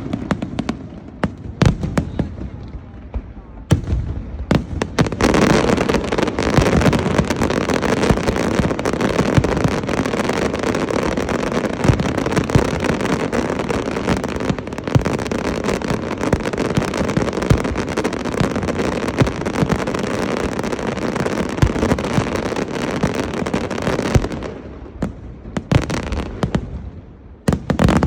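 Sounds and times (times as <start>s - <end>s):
fireworks barrage: 0.0s - 28.0s.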